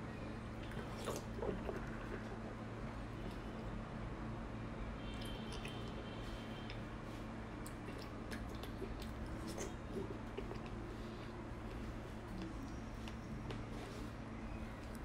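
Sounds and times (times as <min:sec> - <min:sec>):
steady low hum: 0:00.0 - 0:15.0
wet chewing and smacking: 0:00.5 - 0:03.8, 0:05.1 - 0:15.0.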